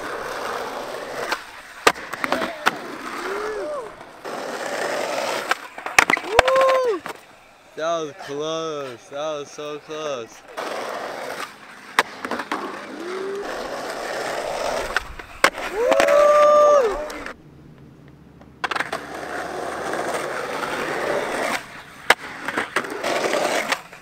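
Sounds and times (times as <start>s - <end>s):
skateboard popping and landing: 0.0s - 7.4s, 10.4s - 24.0s
skateboard wheels rolling on pavement: 0.0s - 24.0s.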